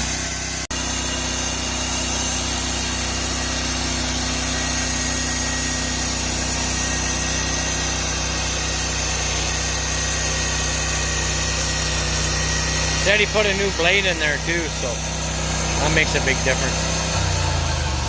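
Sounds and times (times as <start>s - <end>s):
bandsaw mill engine running: 0.0s - 18.0s
saw blade cutting wood: 0.0s - 18.0s.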